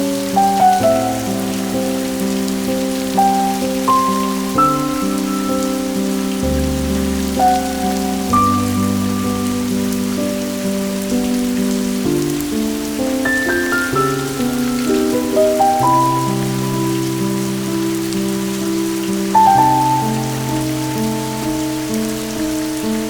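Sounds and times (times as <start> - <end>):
soft slow music: 0.0 - 23.0
steady rain falling: 0.0 - 23.0.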